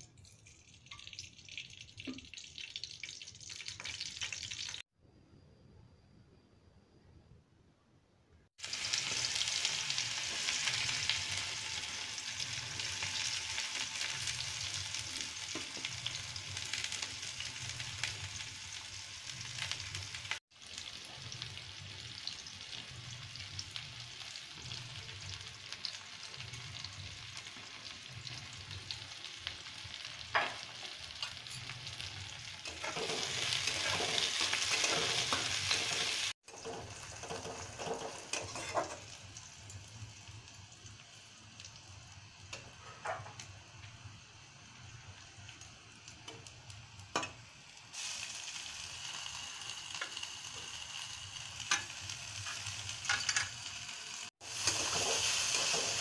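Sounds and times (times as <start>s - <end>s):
onions sizzling in hot oil: 0.2s - 4.8s, 8.6s - 56.0s.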